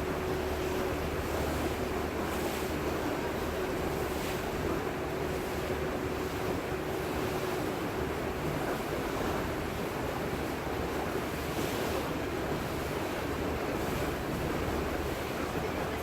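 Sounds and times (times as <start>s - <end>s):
water rushing along boat hull: 0.0s - 16.0s.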